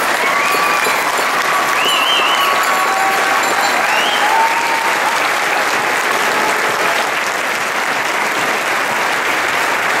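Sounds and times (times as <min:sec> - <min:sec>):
large audience applauding: 0:00.0 - 0:10.0.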